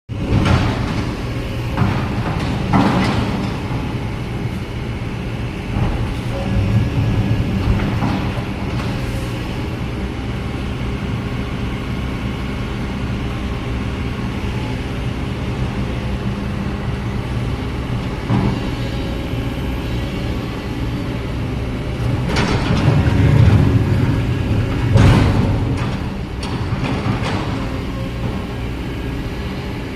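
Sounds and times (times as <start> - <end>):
diesel engine running under load: 0.1 - 29.9.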